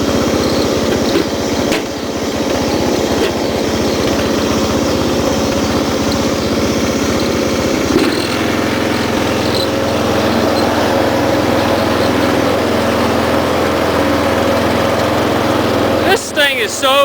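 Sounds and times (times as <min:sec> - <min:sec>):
lawn tractor engine running: 0:00.0 - 0:17.0.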